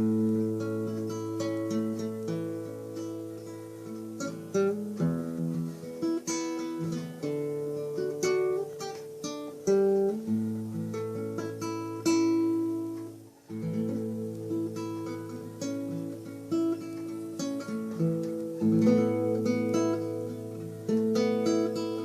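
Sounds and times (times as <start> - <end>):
fingerstyle acoustic guitar: 0.0 - 22.0.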